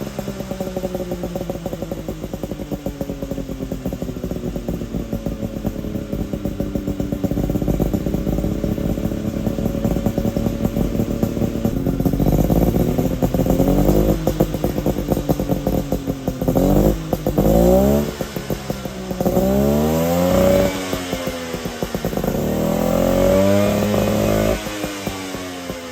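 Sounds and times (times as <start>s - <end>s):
two-stroke engine idling and revving: 0.0s - 25.9s.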